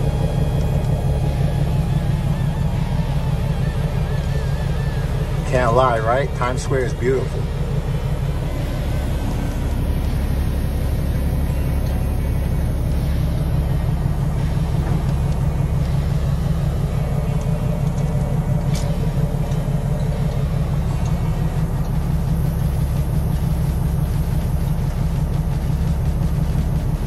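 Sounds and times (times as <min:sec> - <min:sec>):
diesel engine deep rumble: 0:00.0 - 0:27.0.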